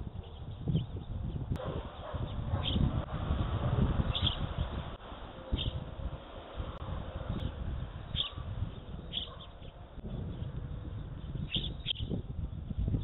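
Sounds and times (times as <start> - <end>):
low outdoor rumble: 0.0 - 13.0
small birds chirping: 0.1 - 5.8, 6.5 - 13.0.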